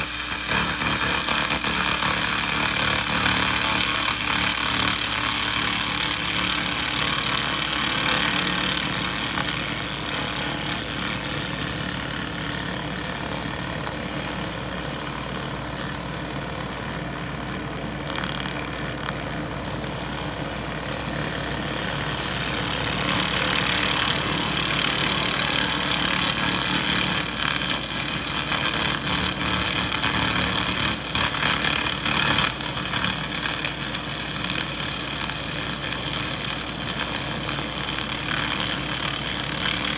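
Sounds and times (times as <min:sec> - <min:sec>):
laser hissing crackle on metal: 0:00.0 - 0:39.9
machine hum: 0:00.0 - 0:39.9.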